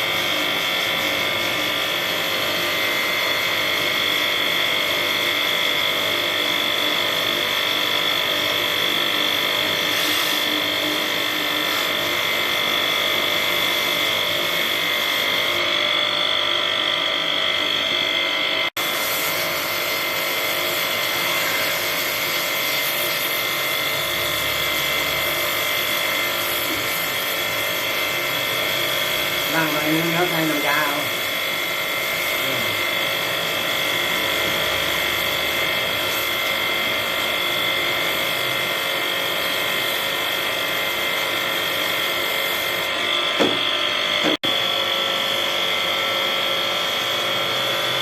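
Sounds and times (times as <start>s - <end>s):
small electric motor whining: 0.0s - 48.0s.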